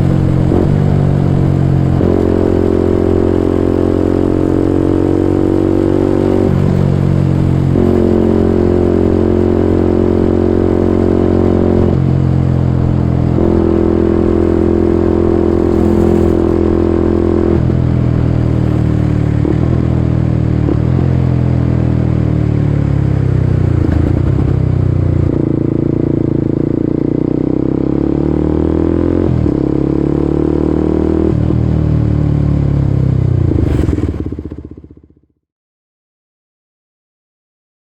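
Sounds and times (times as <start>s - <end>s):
motorcycle engine running: 0.0s - 35.3s.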